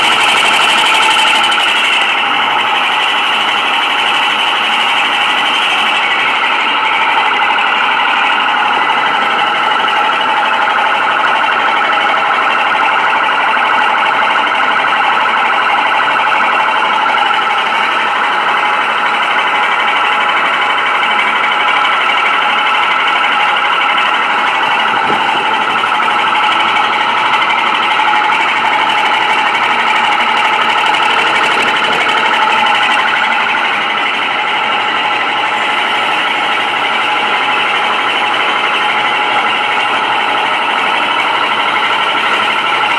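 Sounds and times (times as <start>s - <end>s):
water pump running: 0.0s - 42.9s.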